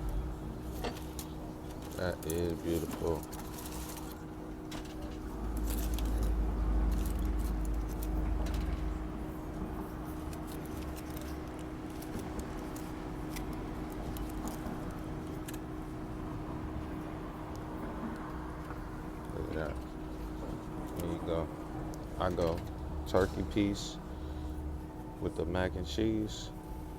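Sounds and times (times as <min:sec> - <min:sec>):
passing traffic rumble: 0:00.0 - 0:26.9
steady hum: 0:00.0 - 0:26.9.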